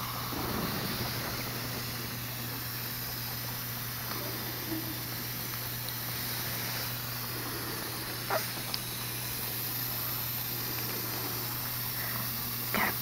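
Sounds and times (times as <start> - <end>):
constant low hum: 0.0 - 13.0
steady air hiss: 0.0 - 13.0.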